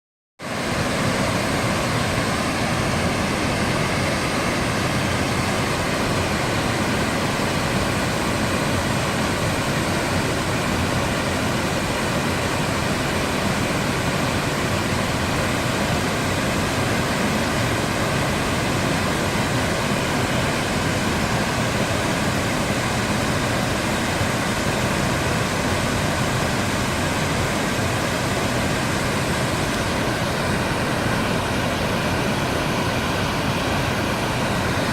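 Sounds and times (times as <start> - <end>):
waterfall rushing: 0.4 - 34.9.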